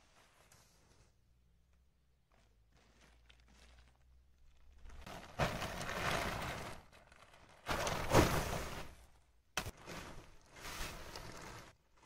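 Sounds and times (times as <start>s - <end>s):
tent fabric rustling and flapping: 0.0s - 1.2s, 2.2s - 12.0s.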